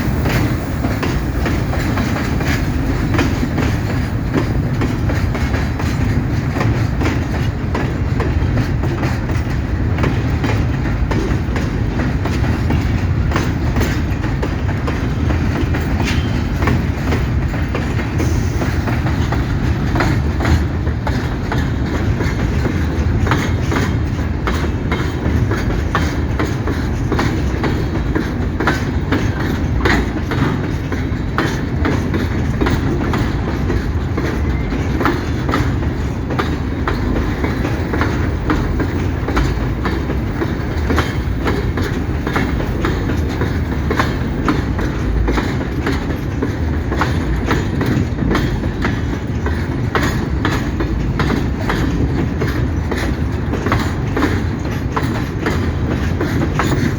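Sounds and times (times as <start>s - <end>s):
train wagons rolling: 0.0s - 56.9s
wheels clattering over rail joints: 0.0s - 56.9s.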